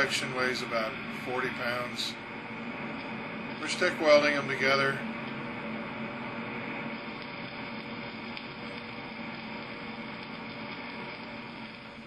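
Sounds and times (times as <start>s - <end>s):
electrical hum: 0.0s - 12.0s
welding arc crackling hiss: 0.0s - 12.0s.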